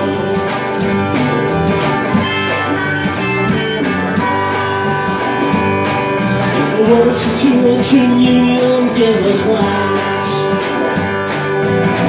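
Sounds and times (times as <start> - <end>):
drums: 0.0 - 12.0
electric guitars: 0.0 - 12.0.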